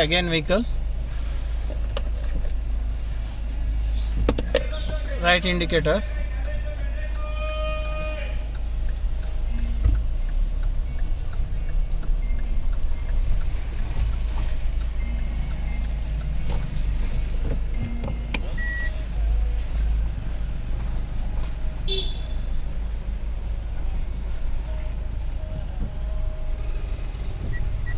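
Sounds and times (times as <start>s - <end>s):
engine and road rumble: 0.0s - 27.9s
turn signal ticking: 0.0s - 27.9s.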